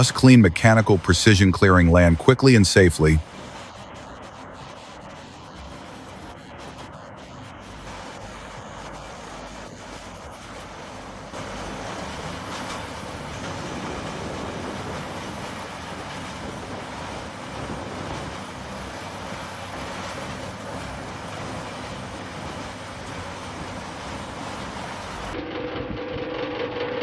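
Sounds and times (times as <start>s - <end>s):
tractor engine: 0.0s - 6.7s, 7.3s - 27.0s.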